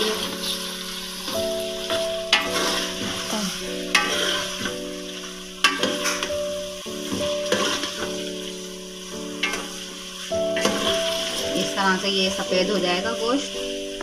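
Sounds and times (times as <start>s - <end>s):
meat and onions sizzling: 0.0s - 14.0s.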